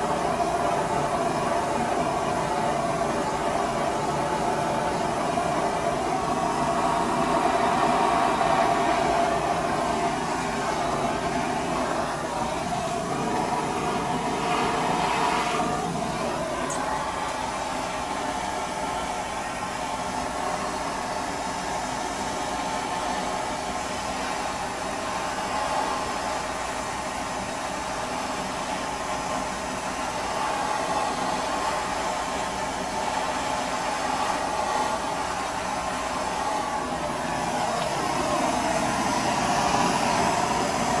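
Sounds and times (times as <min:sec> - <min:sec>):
blowtorch flame hissing: 0:00.0 - 0:41.0.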